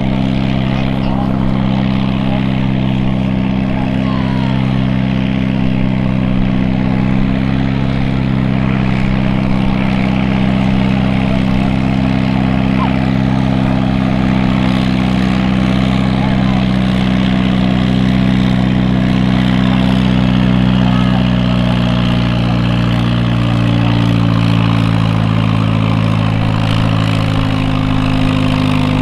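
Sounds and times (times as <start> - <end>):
tractor engine working hard: 0.0 - 29.0.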